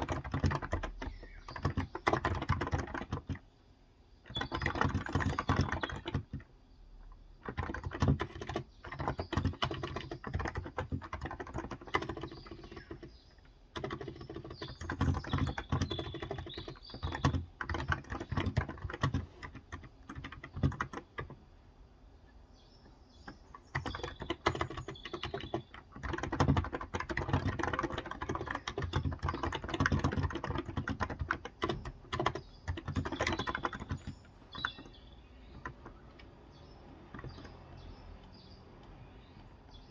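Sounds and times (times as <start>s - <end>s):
keyboard typing: 0.0s - 3.5s, 4.2s - 21.4s, 22.8s - 39.9s.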